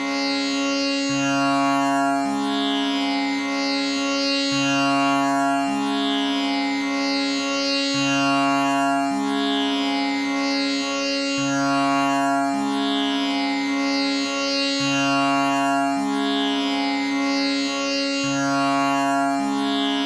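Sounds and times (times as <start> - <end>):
tanpura drone: 0.0 - 20.0.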